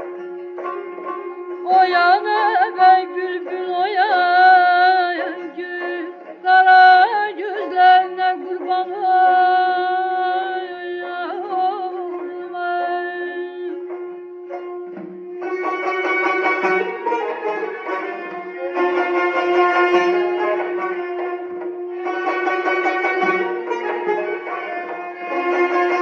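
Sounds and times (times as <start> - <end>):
ornamented folk melody: 0.0 - 26.0.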